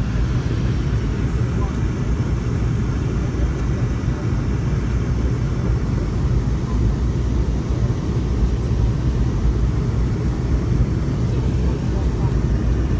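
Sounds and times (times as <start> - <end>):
airliner engine and airflow rumble: 0.0 - 12.9.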